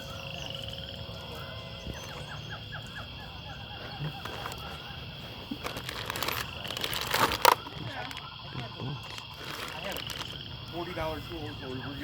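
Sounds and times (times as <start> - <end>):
outdoor background hum: 0.0 - 12.0.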